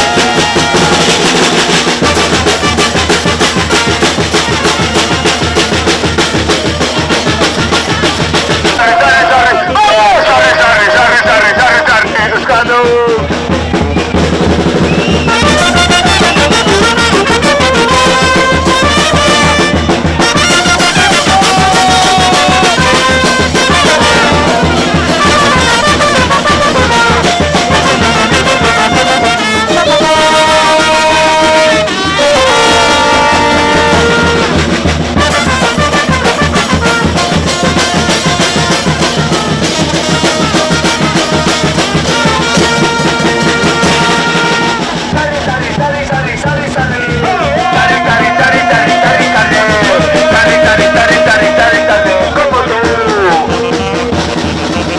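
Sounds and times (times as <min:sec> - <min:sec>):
brass band music: 0:00.0 - 0:54.9
steady drum beat: 0:00.0 - 0:54.9.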